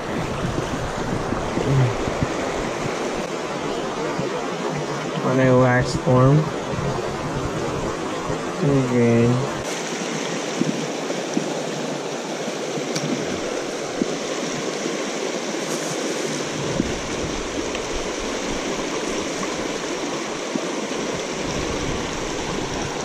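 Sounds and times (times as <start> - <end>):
creek rushing over rocks: 0.0 - 23.0.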